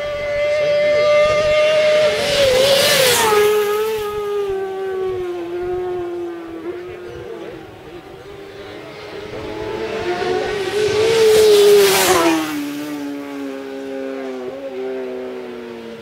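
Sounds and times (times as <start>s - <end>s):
motorcycle passing at speed: 0.0s - 16.0s
other motorcycle engines: 0.0s - 16.0s.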